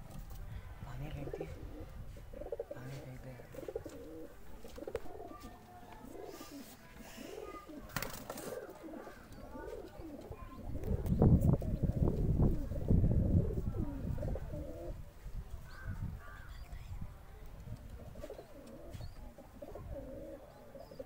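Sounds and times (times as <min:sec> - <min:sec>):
pigeons cooing: 0:01.2 - 0:15.0, 0:17.9 - 0:21.0.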